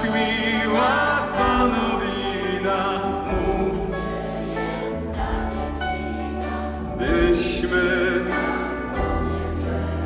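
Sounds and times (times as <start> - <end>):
audience singing along: 0.0 - 10.0
lead singer singing: 0.0 - 10.0
steady bass: 0.0 - 10.0.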